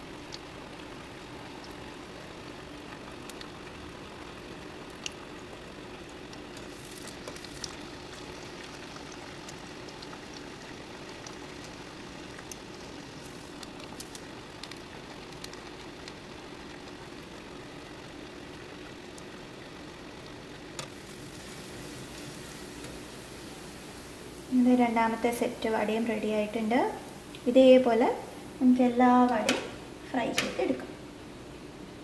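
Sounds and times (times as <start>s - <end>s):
deep-frying sizzle with pops: 0.0s - 32.0s.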